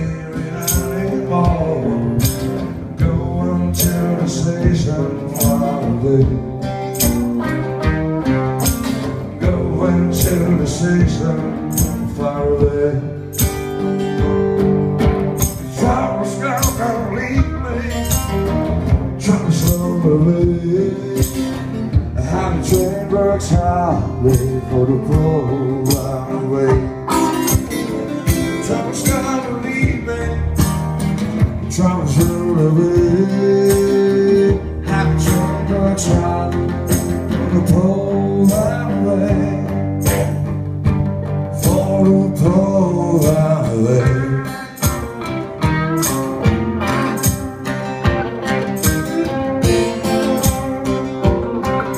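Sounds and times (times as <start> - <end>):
acoustic guitar strumming blues-rock: 0.0 - 51.9.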